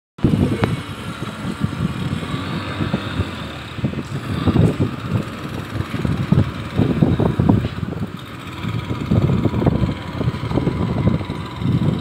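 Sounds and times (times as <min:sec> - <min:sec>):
speedboat outboard motors running: 0:00.2 - 0:12.0
wind buffeting microphone: 0:00.2 - 0:12.0.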